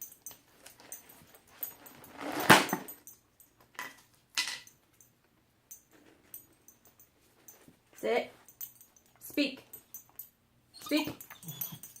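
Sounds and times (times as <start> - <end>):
small metal jingles: 0.0 - 12.0.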